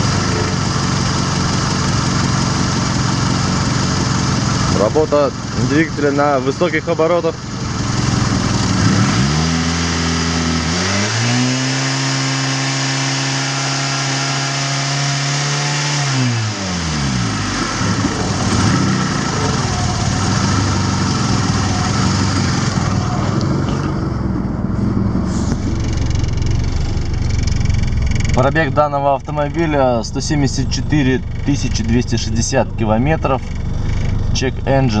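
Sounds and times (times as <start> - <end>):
car engine revving and idling: 0.0 - 35.0.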